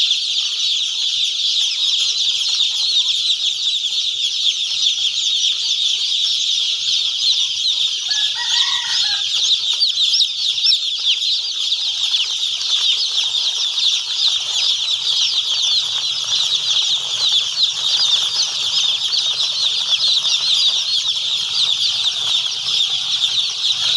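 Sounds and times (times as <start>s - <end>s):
chicks peeping: 0.0s - 23.9s.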